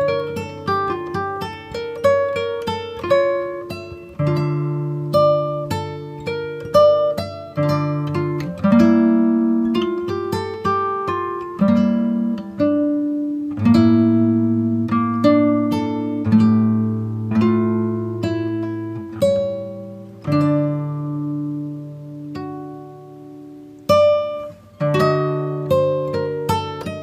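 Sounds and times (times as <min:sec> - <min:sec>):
plucked acoustic guitar: 0:00.0 - 0:27.0.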